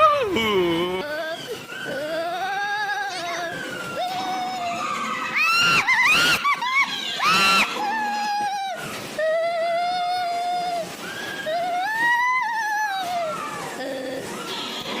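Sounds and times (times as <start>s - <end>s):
wailing and screaming: 0.0s - 15.0s.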